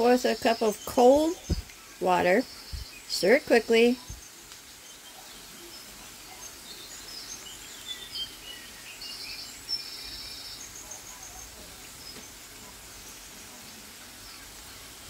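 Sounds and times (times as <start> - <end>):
faint bird chirps and trills: 0.0 - 15.0
steady background hiss: 0.0 - 15.0.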